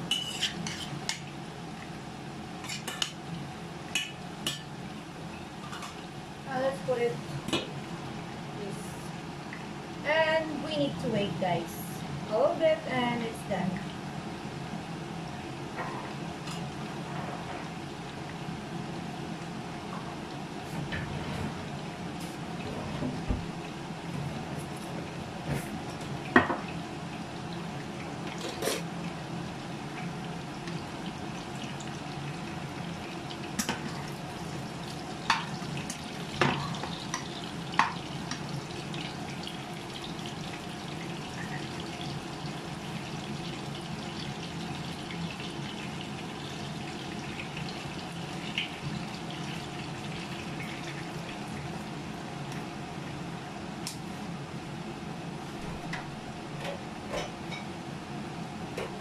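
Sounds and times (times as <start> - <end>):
food sizzling in pans: 0.0 - 20.8, 25.7 - 53.3.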